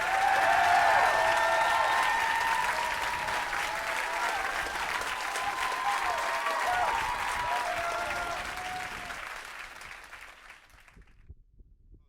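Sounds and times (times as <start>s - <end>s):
audience applause: 0.0s - 11.0s.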